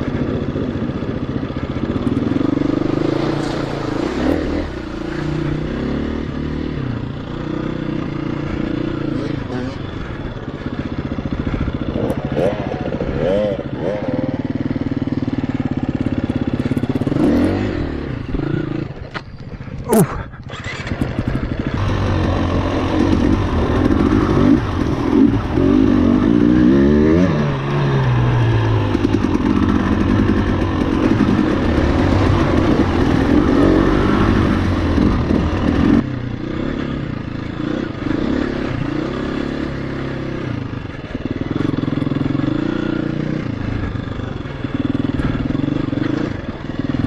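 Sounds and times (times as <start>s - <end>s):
dirt bike engine revving: 0.0s - 19.2s, 19.9s - 47.0s.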